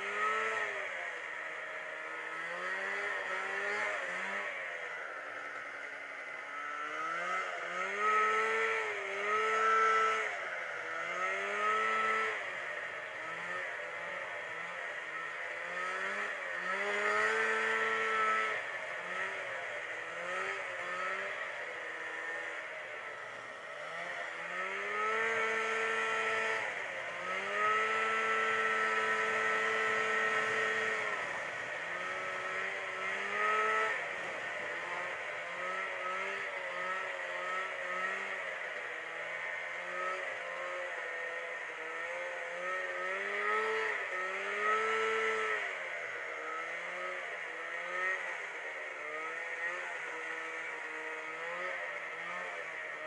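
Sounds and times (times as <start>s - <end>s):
snowmobile engine revving: 0.0s - 53.0s.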